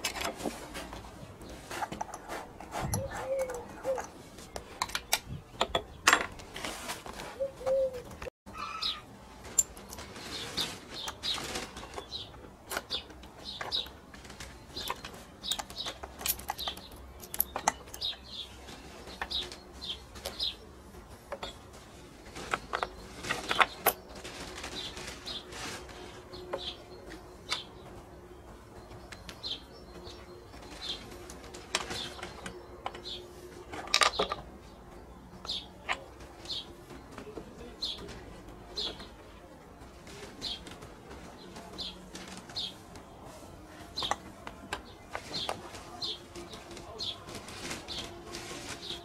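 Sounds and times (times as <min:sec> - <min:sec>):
small birds chirping: 0:00.4 - 0:06.1, 0:07.3 - 0:49.0.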